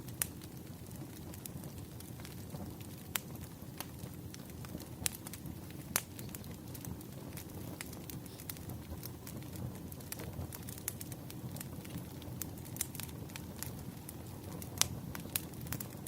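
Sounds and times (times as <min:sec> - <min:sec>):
fire rumbling and crackling: 0:00.0 - 0:16.0.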